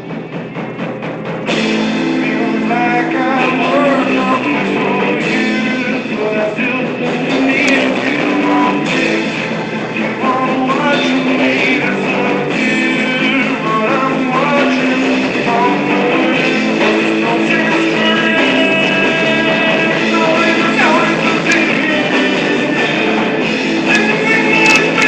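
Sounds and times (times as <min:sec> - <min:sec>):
guitar chords with bending notes: 0:00.0 - 0:25.0.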